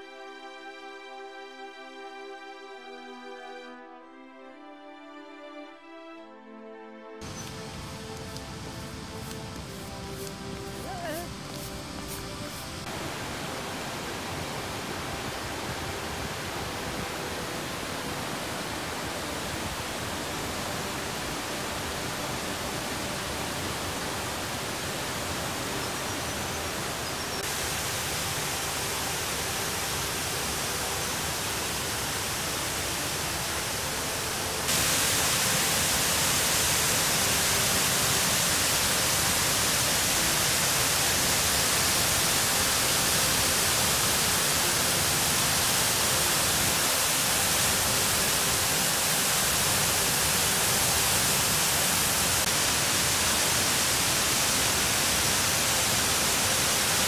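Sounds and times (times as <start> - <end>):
waterfall rushing: 7.2 - 57.0.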